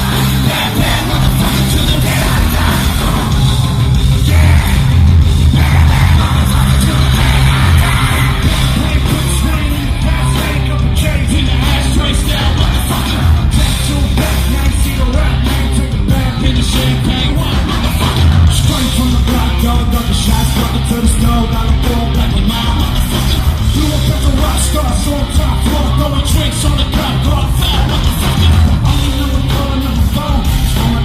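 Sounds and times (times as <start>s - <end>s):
live rock music: 0.0s - 31.0s.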